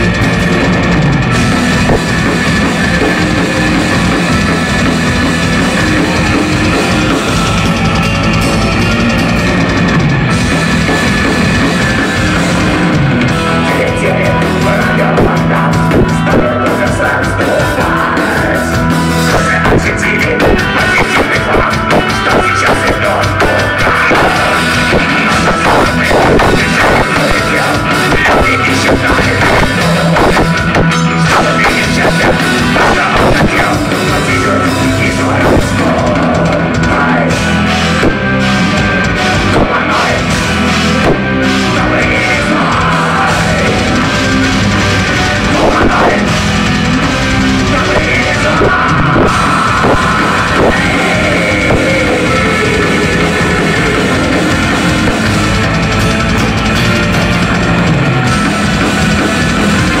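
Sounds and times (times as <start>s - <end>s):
electric guitars: 0.0s - 60.0s
pounding drum kit: 0.0s - 60.0s.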